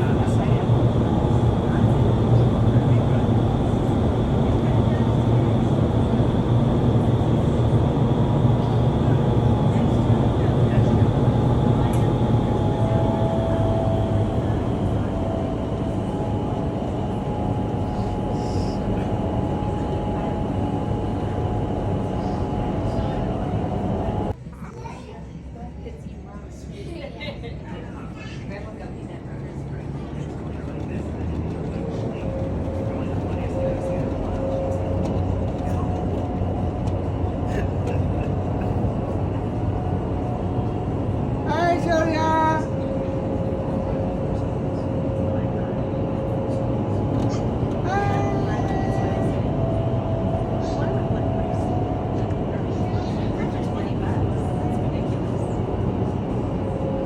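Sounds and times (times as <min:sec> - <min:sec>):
wind tunnel fans rushing air: 0:00.0 - 0:24.4, 0:28.6 - 0:57.0.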